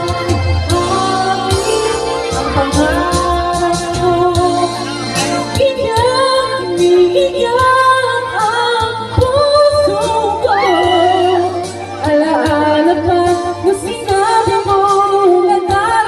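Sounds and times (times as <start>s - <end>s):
backing music: 0.0s - 16.0s
woman singing a ballad: 0.0s - 16.0s.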